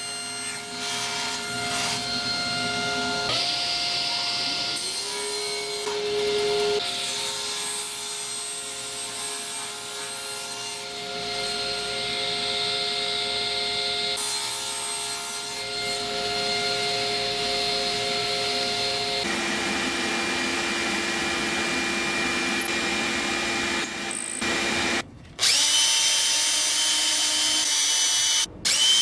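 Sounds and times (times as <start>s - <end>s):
electric saw cutting wood: 0.0s - 29.0s.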